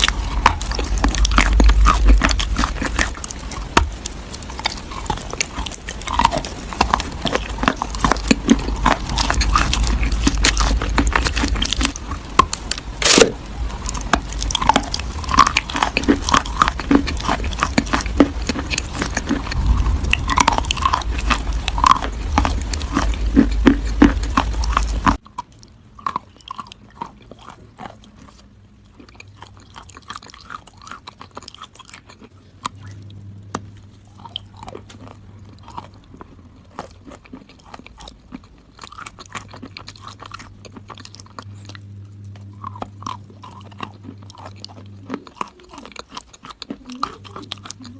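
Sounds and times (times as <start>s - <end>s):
crunching and chewing crisp food: 0.0s - 47.9s.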